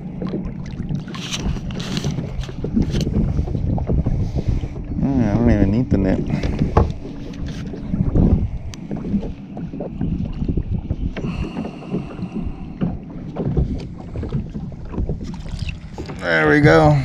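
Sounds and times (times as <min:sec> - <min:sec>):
water slapping against hull: 0:00.0 - 0:17.0
wind buffeting microphone: 0:00.0 - 0:17.0.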